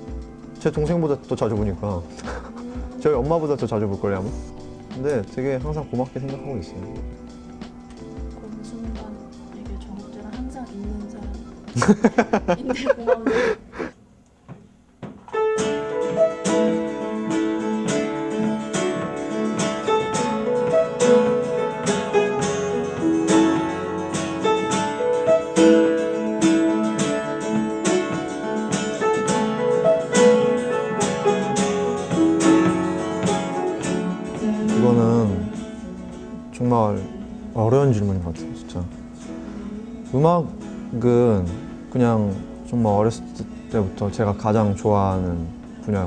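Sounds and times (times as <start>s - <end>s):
gentle piano and acoustic guitar: 0.0s - 13.7s, 15.2s - 46.0s.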